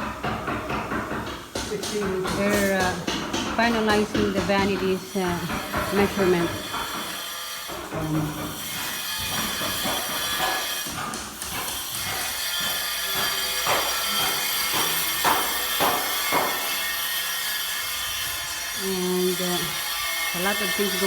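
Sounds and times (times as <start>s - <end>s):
hand saw cutting wood: 0.0s - 21.0s.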